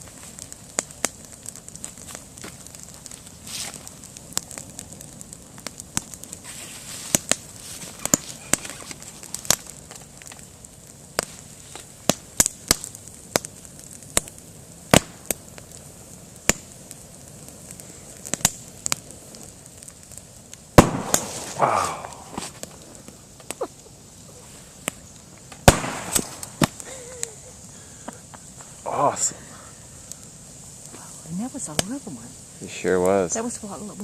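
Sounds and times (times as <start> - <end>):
campfire crackling and popping: 0.0 - 34.0
steady low hiss: 0.0 - 34.0.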